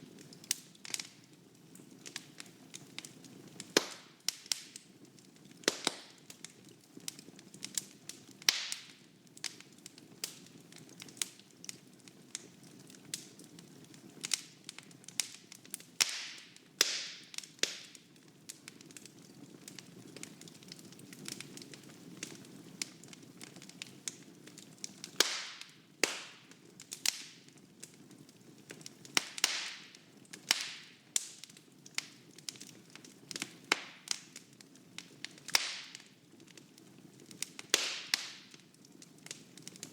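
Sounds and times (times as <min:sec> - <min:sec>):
wood fire cracking and popping: 0:00.0 - 0:39.9.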